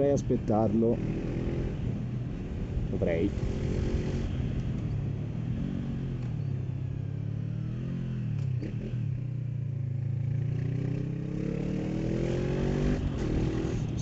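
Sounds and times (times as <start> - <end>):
motorcycle engine accelerating: 0.8 - 14.0.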